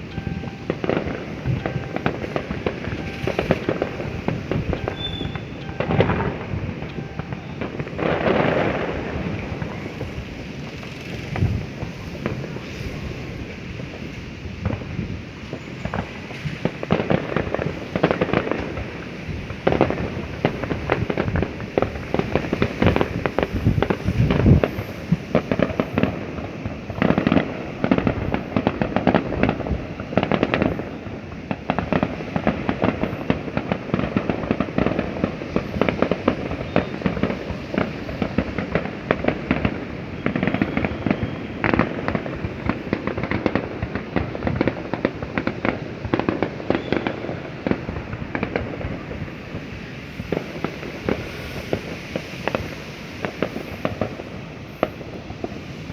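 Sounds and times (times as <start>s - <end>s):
fireworks popping and banging: 0.0s - 55.9s.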